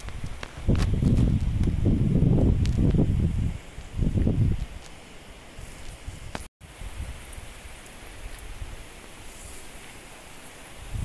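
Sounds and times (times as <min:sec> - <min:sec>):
wind buffeting microphone: 0:00.0 - 0:09.6, 0:10.6 - 0:11.0
leaves rustling: 0:00.0 - 0:11.0.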